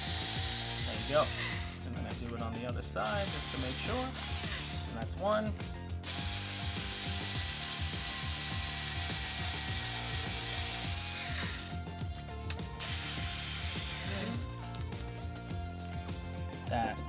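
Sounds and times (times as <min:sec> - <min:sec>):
cordless screwdriver drilling metal: 0:00.0 - 0:02.4, 0:03.0 - 0:05.0, 0:06.0 - 0:16.2.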